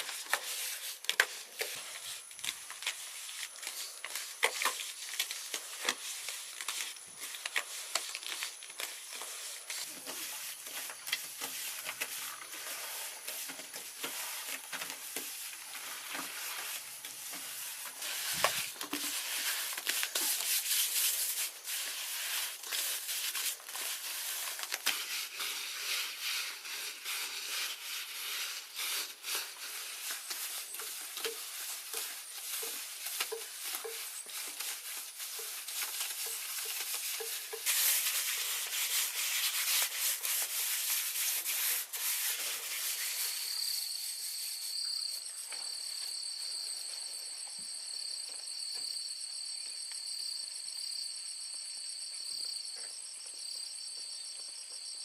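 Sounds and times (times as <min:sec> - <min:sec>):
scraping on rough surface: 0:00.0 - 0:45.2.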